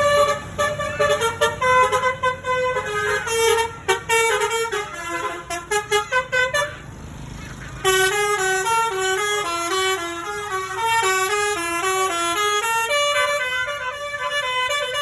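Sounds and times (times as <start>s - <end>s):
multi-tone bus horn playing tune: 0.0s - 15.0s.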